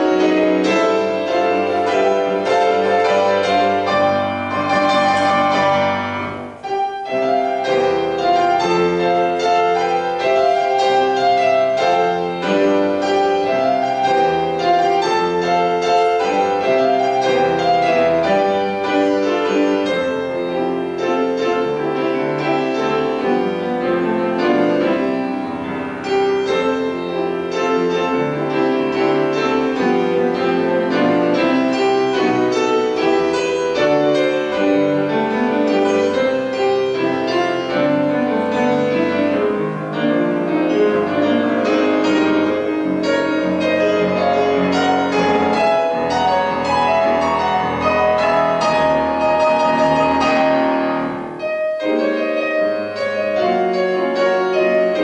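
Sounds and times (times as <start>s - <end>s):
piano playing: 0.0s - 55.0s.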